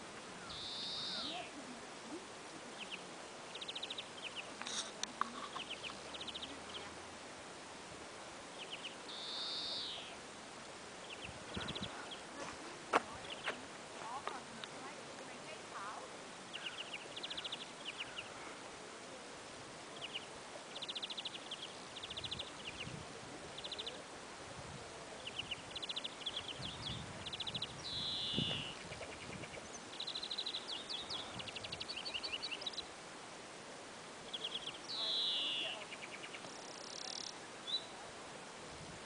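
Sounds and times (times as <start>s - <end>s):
small birds chirping: 0.3s - 7.1s, 8.4s - 10.3s, 10.9s - 18.6s, 19.8s - 24.1s, 25.1s - 33.0s, 34.1s - 38.1s.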